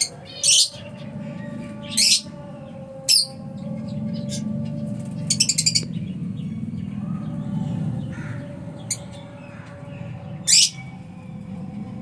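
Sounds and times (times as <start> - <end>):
lovebirds chirping and screeching: 0.0 - 11.1
steady low hum: 0.0 - 12.0.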